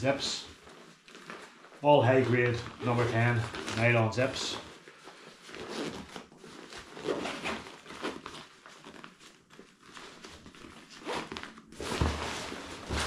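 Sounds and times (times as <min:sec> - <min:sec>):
nylon fabric rustling: 0:00.0 - 0:13.0.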